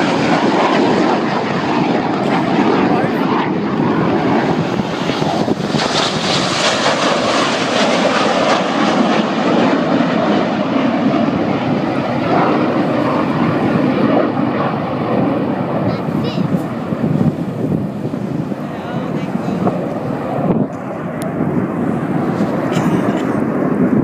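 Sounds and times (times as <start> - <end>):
jet engines taking off: 0.0 - 24.0.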